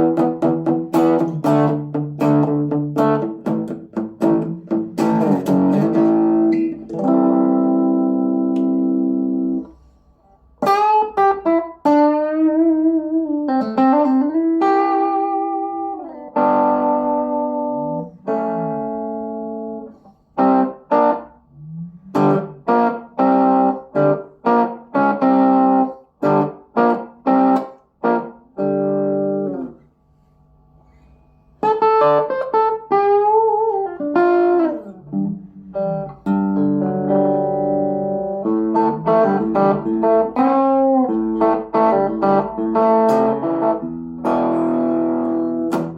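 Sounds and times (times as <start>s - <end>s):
electric guitar lead with bends: 0.0s - 29.8s, 31.6s - 45.9s.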